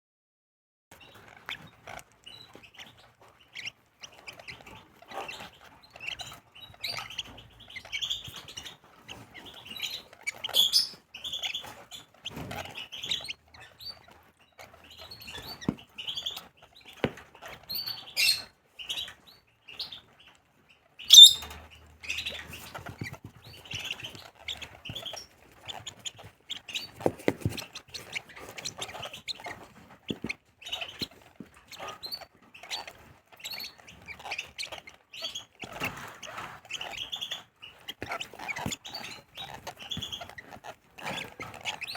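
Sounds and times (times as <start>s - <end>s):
lovebirds chirping: 1.0s - 20.2s, 20.8s - 41.9s.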